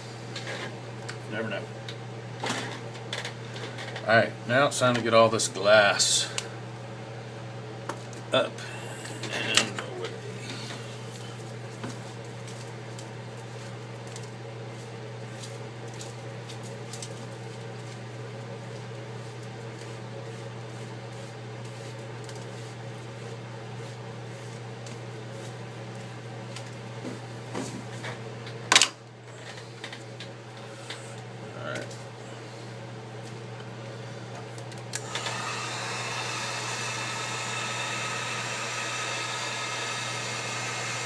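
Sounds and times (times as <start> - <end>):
electric fan motor hum: 0.0 - 41.0.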